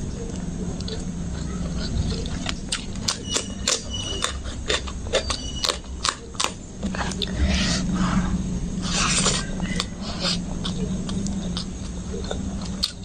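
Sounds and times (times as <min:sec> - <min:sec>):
steady low hum: 0:00.0 - 0:13.0
wet chewing and mouth smacks: 0:00.3 - 0:07.8, 0:08.8 - 0:13.0
biting into a chili: 0:00.3 - 0:08.0, 0:08.8 - 0:13.0.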